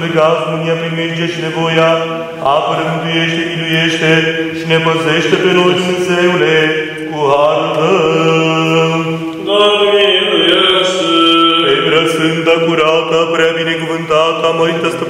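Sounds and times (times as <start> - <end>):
male voices chanting: 0.0 - 15.0.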